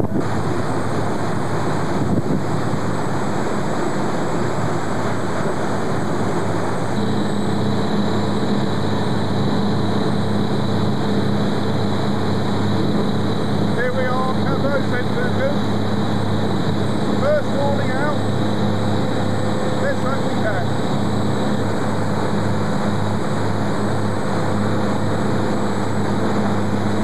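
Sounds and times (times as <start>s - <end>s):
boat engine drone: 0.0s - 27.0s
wind and wake rushing: 0.0s - 27.0s.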